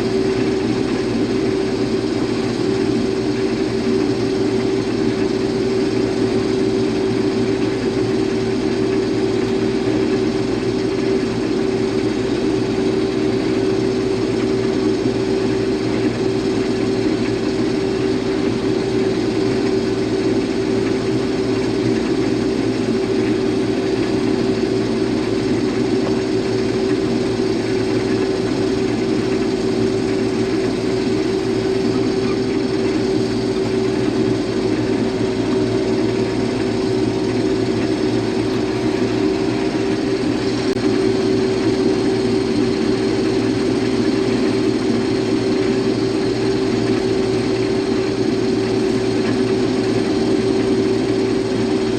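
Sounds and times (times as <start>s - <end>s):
combine harvester engine drone: 0.0s - 51.9s.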